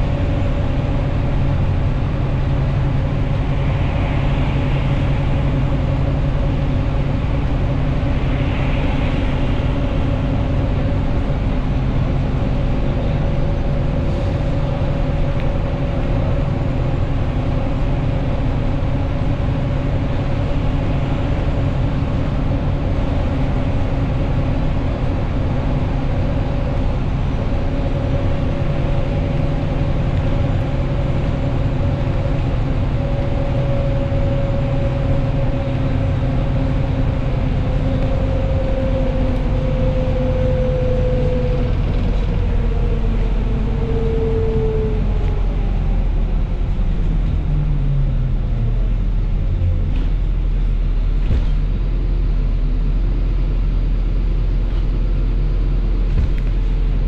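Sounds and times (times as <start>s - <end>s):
bus engine and tyres rumbling: 0.0s - 57.0s
drivetrain whine: 0.0s - 57.0s.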